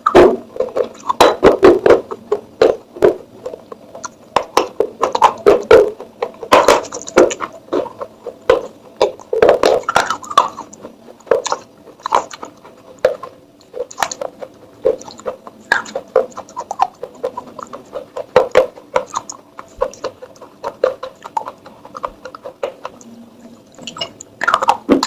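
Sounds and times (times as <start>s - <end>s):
clay pot pieces crunching: 0.0s - 25.0s.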